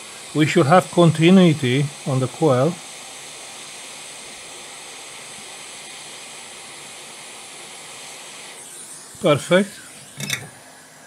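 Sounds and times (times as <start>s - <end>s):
steady hiss: 0.0s - 10.3s.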